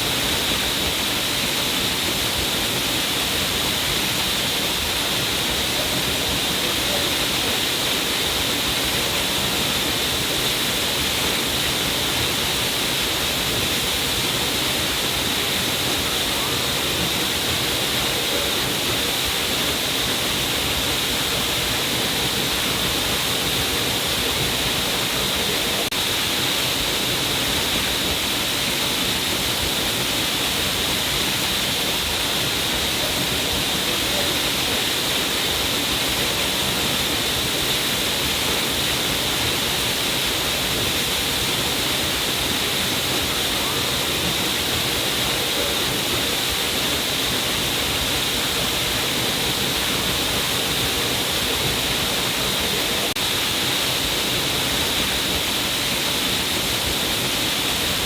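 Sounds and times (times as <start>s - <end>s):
water pouring down a cliff: 0.0s - 58.0s.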